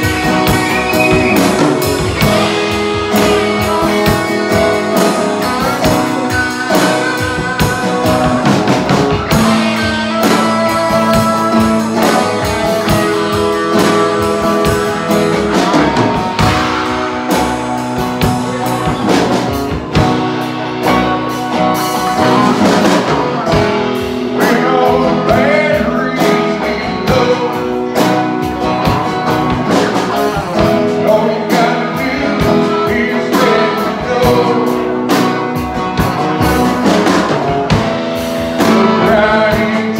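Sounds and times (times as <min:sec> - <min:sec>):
drum kit: 0:00.0 - 0:39.9
electric guitar: 0:00.0 - 0:39.9
strummed acoustic guitar: 0:00.0 - 0:39.9.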